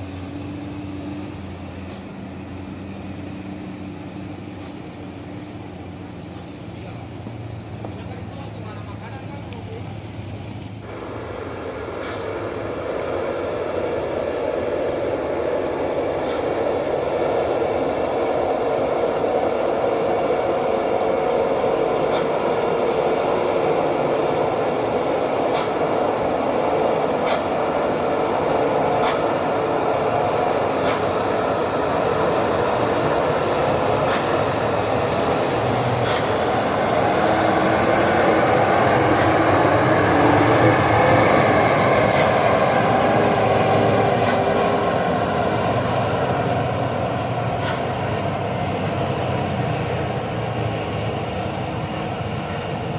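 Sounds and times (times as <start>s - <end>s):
truck engine drone: 0.0s - 52.9s.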